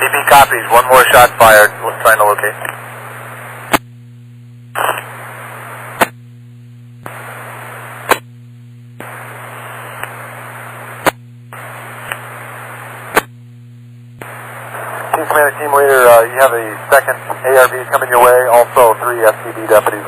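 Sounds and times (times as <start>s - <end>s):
radio clicks and squelch bursts: 0.0s - 3.9s, 4.7s - 6.2s, 7.0s - 8.2s, 9.0s - 13.3s, 14.2s - 20.0s
radio static hiss: 0.0s - 4.0s, 4.6s - 6.2s, 7.0s - 20.0s
steady low hum: 0.0s - 20.0s.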